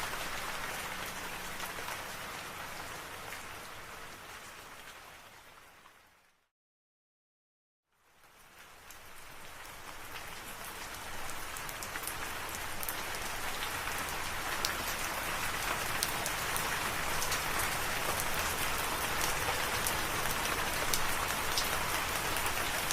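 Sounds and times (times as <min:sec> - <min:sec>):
steady rain falling: 0:00.0 - 0:06.4, 0:07.9 - 0:22.9.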